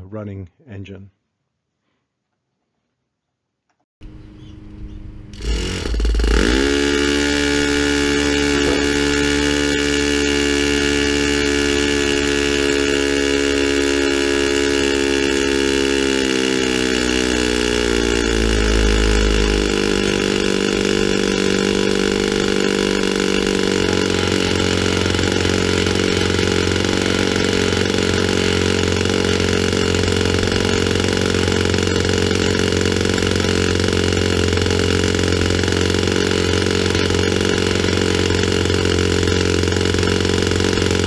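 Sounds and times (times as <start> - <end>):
electric starter whirring: 4.0 - 41.0
model engine running at high speed: 5.3 - 41.0.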